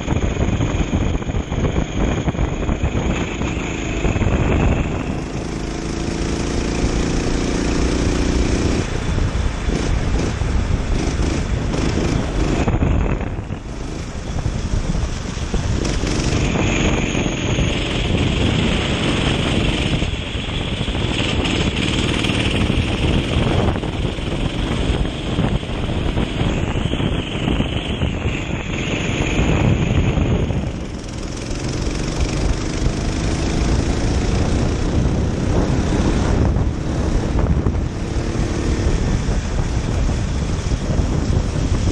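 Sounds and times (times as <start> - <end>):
kart engine running hard: 0.0 - 41.9
wind buffeting microphone: 0.0 - 41.9.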